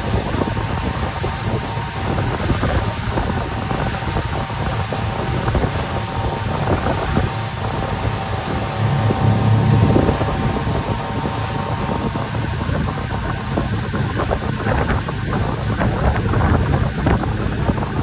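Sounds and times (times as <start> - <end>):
motorboat engine running: 0.0 - 18.0
wind buffeting microphone: 0.0 - 18.0.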